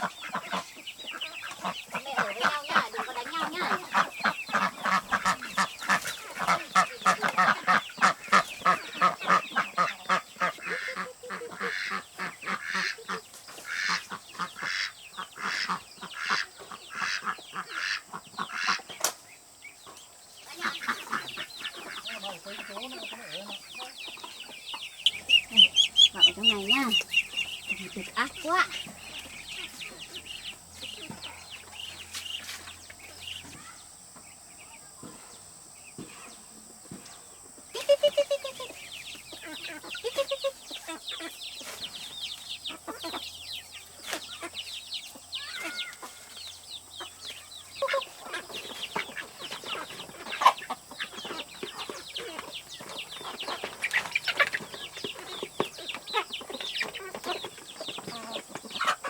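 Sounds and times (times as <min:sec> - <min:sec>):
poultry clucking: 0:00.0 - 0:59.0
poultry peeping and chirping: 0:00.0 - 0:59.0.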